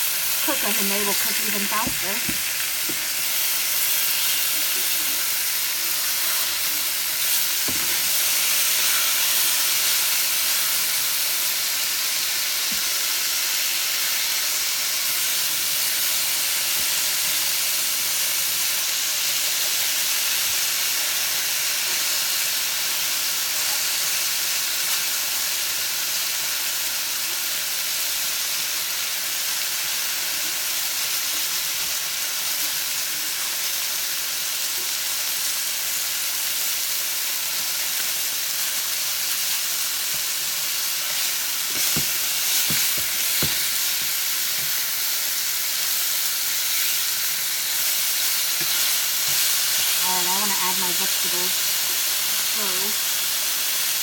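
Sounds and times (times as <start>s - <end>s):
chicken sizzling in a skillet: 0.0s - 54.0s.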